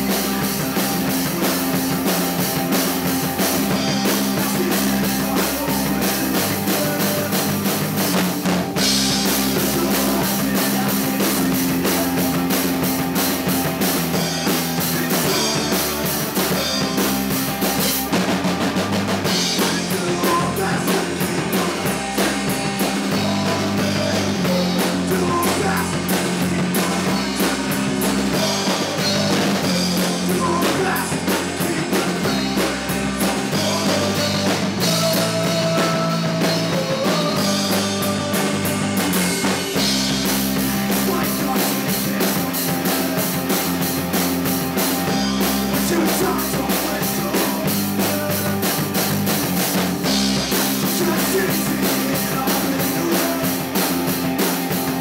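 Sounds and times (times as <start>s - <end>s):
man singing lead vocal: 0.0s - 18.3s, 19.2s - 55.0s
drum kit with cymbals: 0.0s - 55.0s
electric bass: 0.0s - 55.0s
electric guitar: 0.0s - 55.0s.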